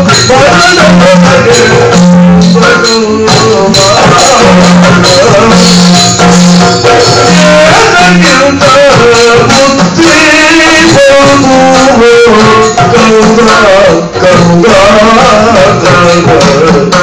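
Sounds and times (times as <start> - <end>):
person singing: 0.0 - 17.0
rapid drum strokes: 0.0 - 17.0.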